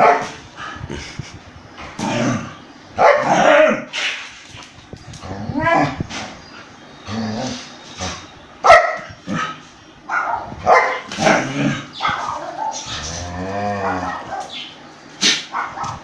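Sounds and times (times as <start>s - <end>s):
dogs barking and snarling: 0.0s - 1.3s, 1.9s - 4.4s, 5.2s - 16.0s.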